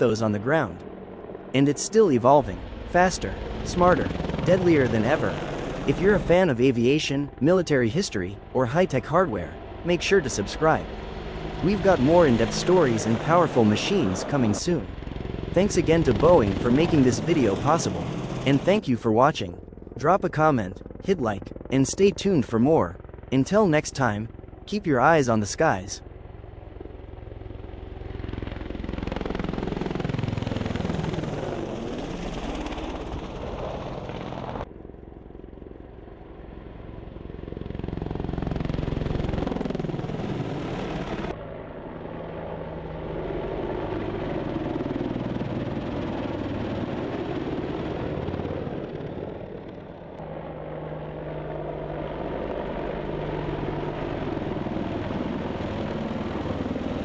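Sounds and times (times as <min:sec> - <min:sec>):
helicopter passing by: 0:00.0 - 0:57.0.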